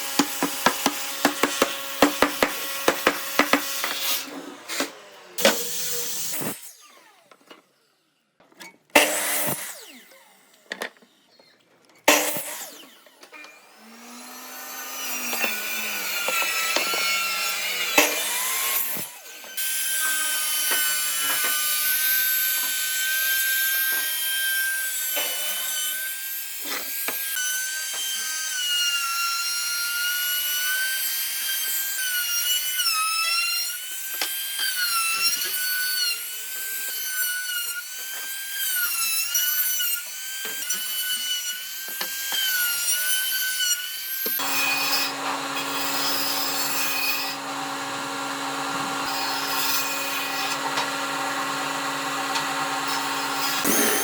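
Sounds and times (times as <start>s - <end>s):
power tool whining on wood: 0.0s - 8.2s, 8.9s - 54.0s.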